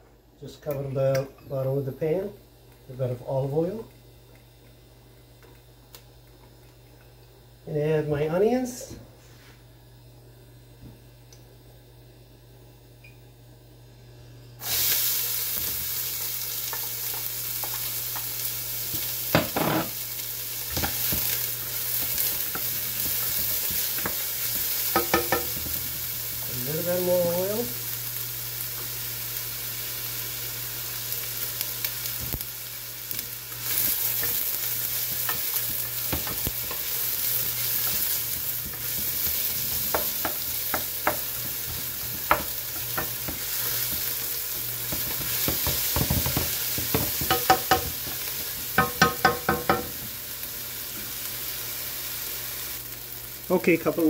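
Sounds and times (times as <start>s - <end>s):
onion sizzling in a pan: 0.0s - 54.0s.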